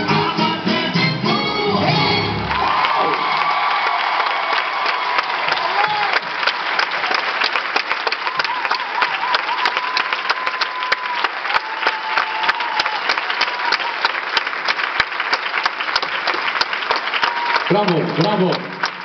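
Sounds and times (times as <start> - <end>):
audience applauding: 2.4 - 19.0.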